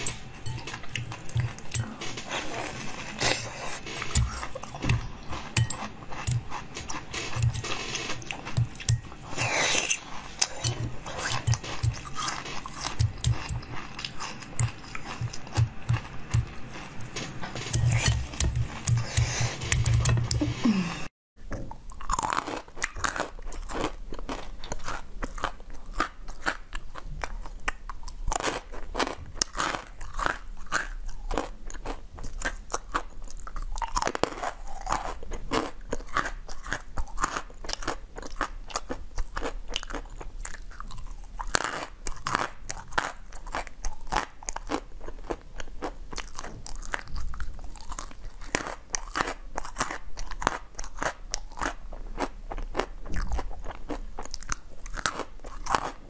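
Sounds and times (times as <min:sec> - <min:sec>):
crunching candy: 0:01.1 - 0:20.4, 0:21.7 - 0:56.0.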